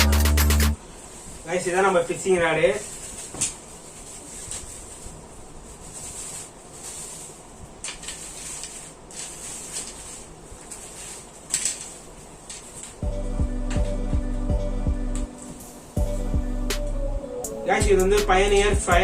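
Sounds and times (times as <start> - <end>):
steady hiss: 0.0 - 14.5, 15.2 - 19.0.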